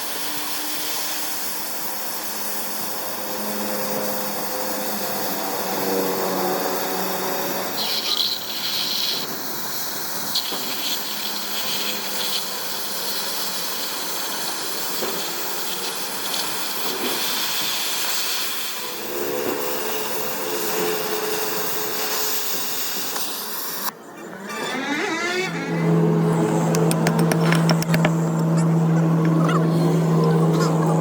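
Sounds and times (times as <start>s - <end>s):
workshop equipment hissing: 0.0s - 24.0s, 24.7s - 31.0s.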